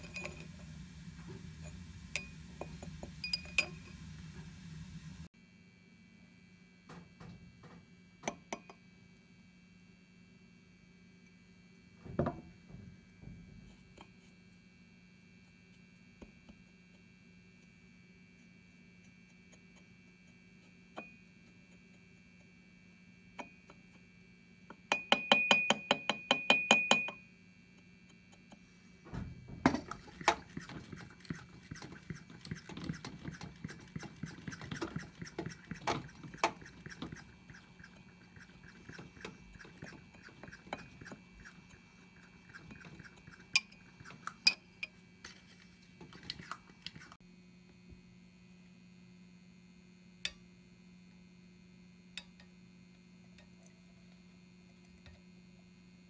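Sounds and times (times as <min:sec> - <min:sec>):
electrical hum: 0:00.0 - 0:25.7, 0:26.6 - 0:56.0.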